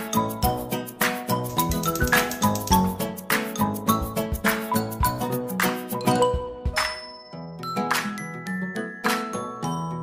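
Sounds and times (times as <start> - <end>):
instrumental music with quick beat: 0.0 - 9.8.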